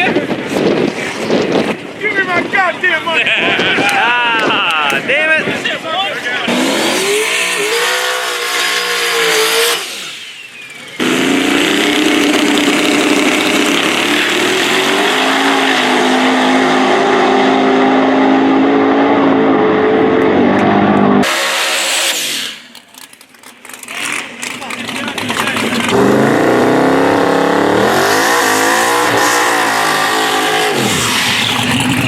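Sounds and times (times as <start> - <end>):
race car engines at full throttle: 0.0 - 32.0.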